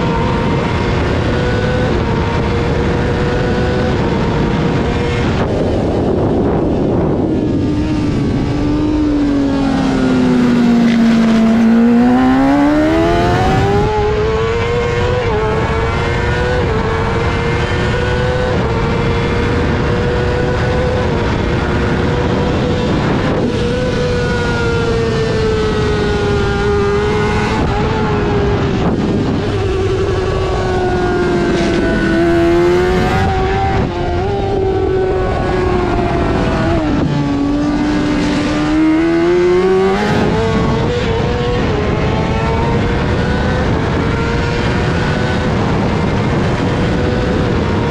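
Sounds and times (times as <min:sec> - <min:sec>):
motorcycle engine revving high: 0:00.0 - 0:47.9
steady rushing noise: 0:00.0 - 0:47.9.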